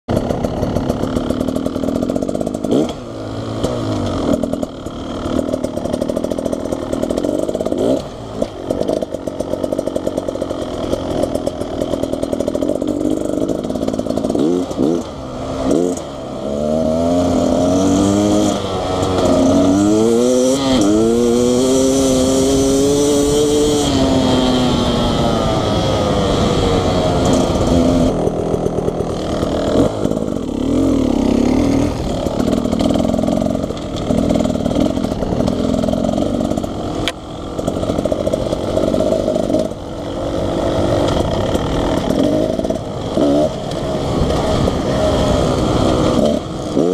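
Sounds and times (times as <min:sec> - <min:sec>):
dirt bike engine accelerating: 0:00.1 - 0:46.9.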